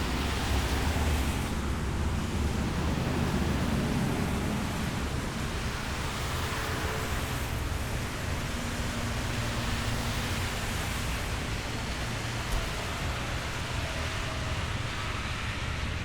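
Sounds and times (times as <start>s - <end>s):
steady road traffic noise: 0.0s - 16.0s.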